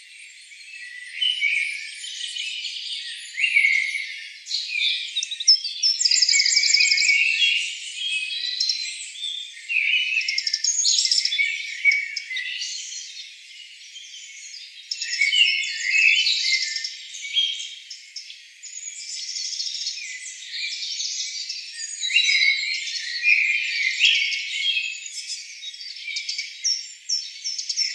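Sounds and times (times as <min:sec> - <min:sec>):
chorus of forest birds: 0:00.0 - 0:27.9.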